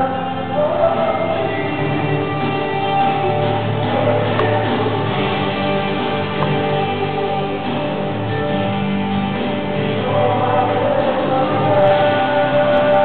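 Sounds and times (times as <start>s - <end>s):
people singing: 0.0s - 8.6s, 9.6s - 13.0s.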